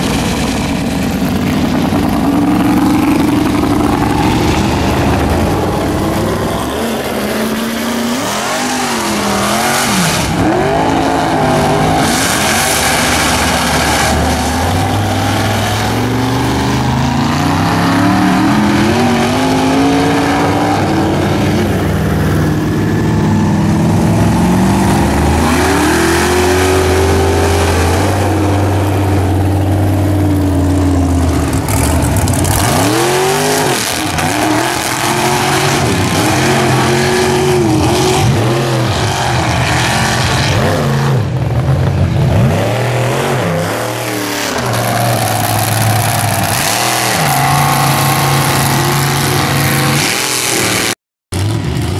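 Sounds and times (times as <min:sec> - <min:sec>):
truck engines revving: 0:00.0 - 0:51.9.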